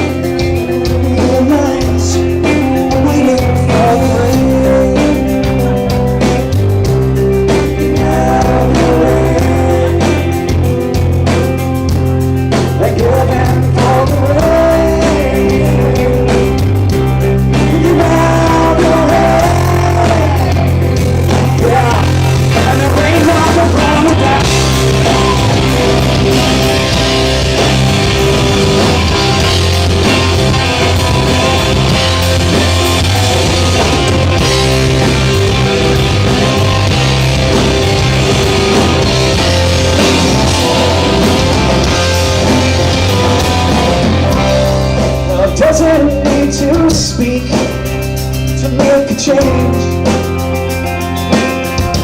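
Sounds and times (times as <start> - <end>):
electric guitar lines: 0.0 - 52.0
steady bass: 0.0 - 52.0.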